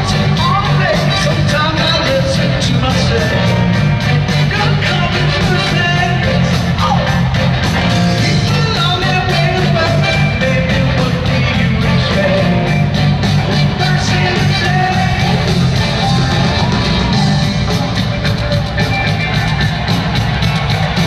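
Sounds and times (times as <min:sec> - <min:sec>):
live rock band: 0:00.0 - 0:21.0.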